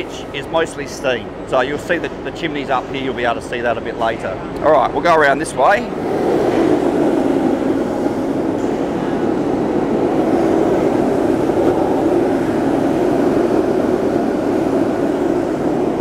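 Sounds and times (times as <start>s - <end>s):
kiln burners roaring: 0.0s - 16.0s.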